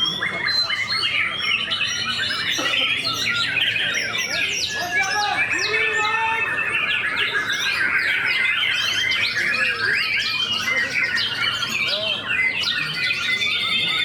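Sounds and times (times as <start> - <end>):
birds singing in chorus: 0.0 - 14.0.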